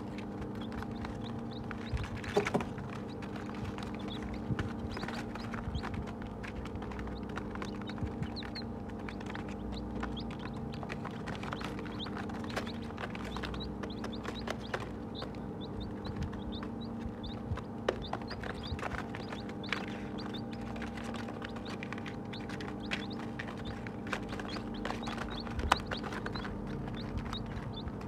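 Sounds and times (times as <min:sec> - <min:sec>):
baby chicks peeping: 0:00.0 - 0:28.0
beaks pecking feed off paper: 0:00.0 - 0:28.0
steady low hum: 0:00.0 - 0:28.0.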